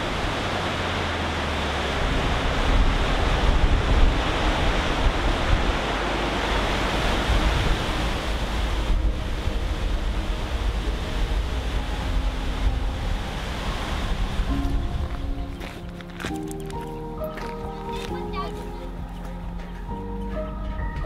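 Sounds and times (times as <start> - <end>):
waterfall rushing over rock ledge: 0.0 - 19.9.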